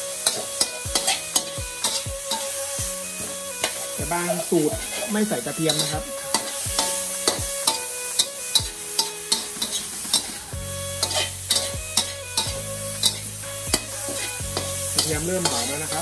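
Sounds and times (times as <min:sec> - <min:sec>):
food sizzling in oil: 0:00.0 - 0:16.0
spatula scraping a wok: 0:00.0 - 0:16.0.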